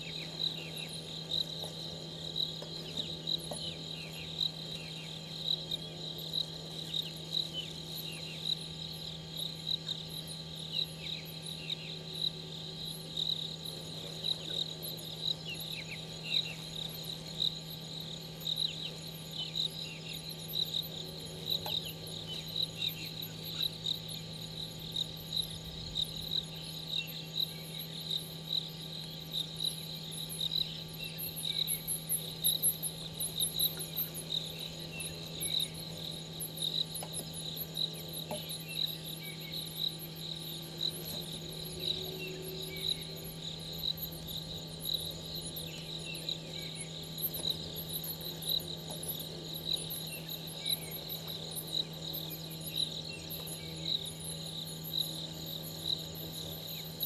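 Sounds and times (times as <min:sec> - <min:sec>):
cricket chirping: 0:00.0 - 0:57.0
shrill insect chorus: 0:00.0 - 0:57.0.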